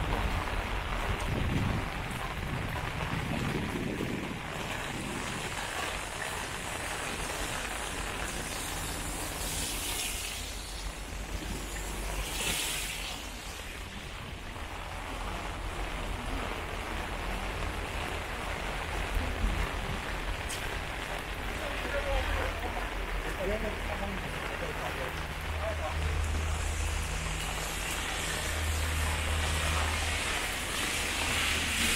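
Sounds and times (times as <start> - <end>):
rain on wet street: 0.0 - 31.9.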